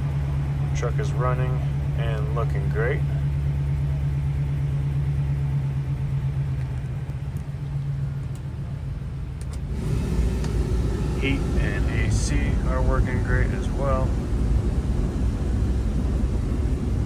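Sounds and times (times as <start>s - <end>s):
blower fan rushing hum: 0.0s - 17.0s
engine idling: 0.0s - 17.0s.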